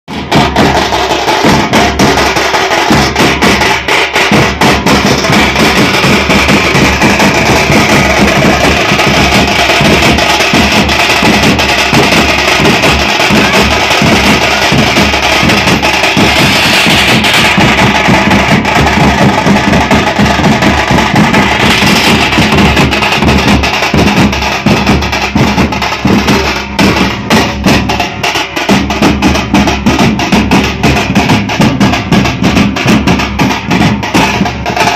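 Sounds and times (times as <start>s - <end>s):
group of drums playing: 0.1s - 34.9s.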